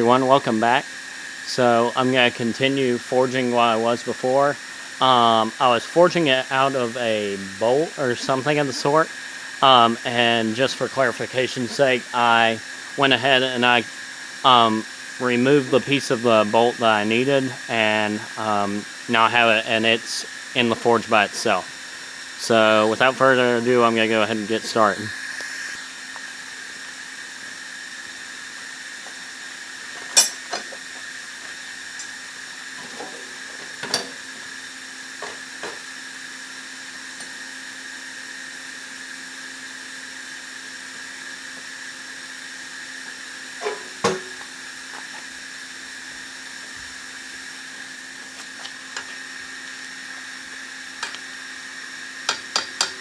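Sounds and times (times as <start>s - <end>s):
forge blower humming: 0.0s - 53.0s.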